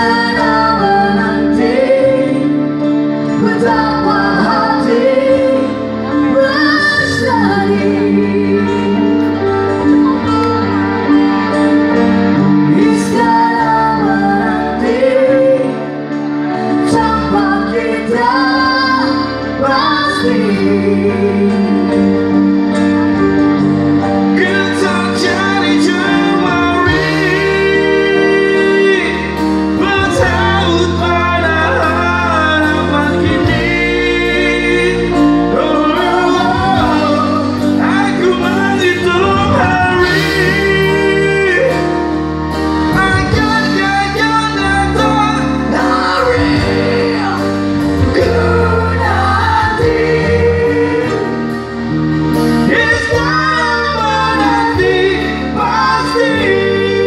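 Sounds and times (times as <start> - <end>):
woman and man singing: 0.0 - 10.0, 12.4 - 22.4, 24.3 - 42.2, 42.8 - 51.7, 52.4 - 57.0
amplified rock band: 0.0 - 57.0.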